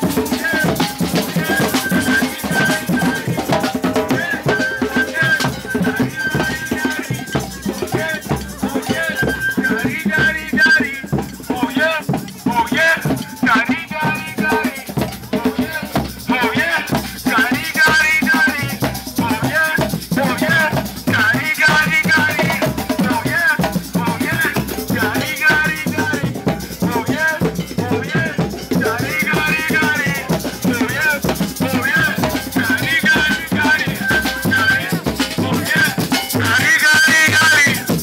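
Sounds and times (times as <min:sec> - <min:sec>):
music with drums: 0:00.0 - 0:38.0
rattling shaker percussion: 0:00.0 - 0:38.0.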